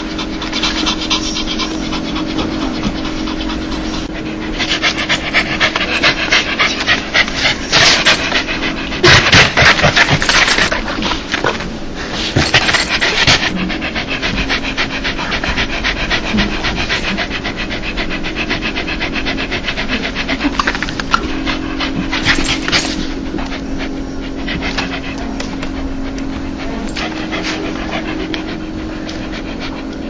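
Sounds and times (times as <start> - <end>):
dog panting: 0.0 - 30.0.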